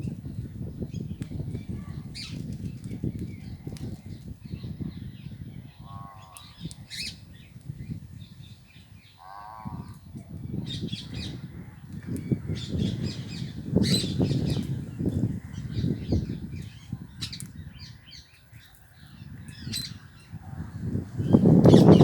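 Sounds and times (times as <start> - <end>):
harsh low bird calls: 0.0 - 22.0.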